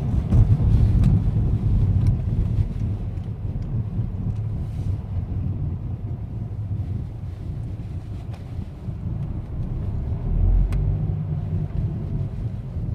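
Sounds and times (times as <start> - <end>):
diesel engine rumbling: 0.0 - 12.9.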